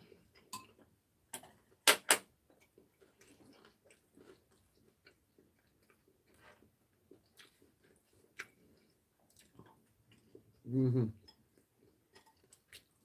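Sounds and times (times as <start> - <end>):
soft chewing: 0.0 - 1.8, 2.4 - 13.0.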